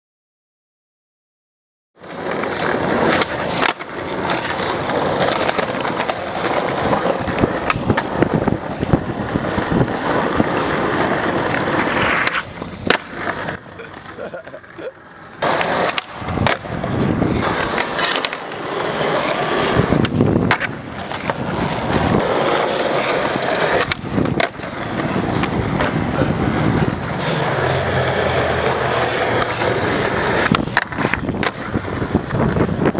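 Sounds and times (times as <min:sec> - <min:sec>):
skateboard wheels rolling on asphalt: 0:02.0 - 0:32.9
skateboard wooden clacks: 0:02.0 - 0:32.9.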